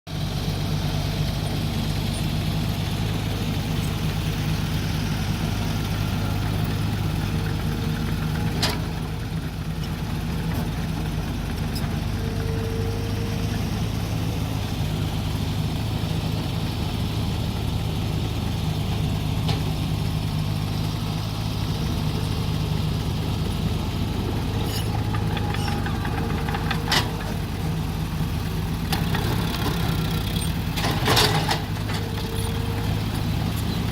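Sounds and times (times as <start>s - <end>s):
excavator engine running: 0.1s - 33.9s.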